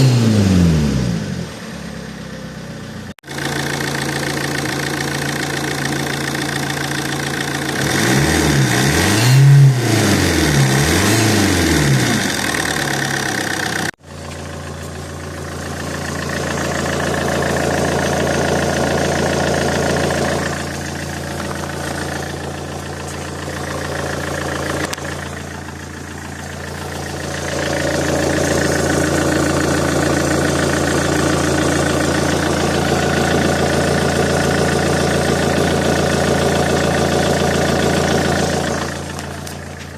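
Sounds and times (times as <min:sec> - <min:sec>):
diesel engine idling and revving: 0:00.0 - 0:39.9.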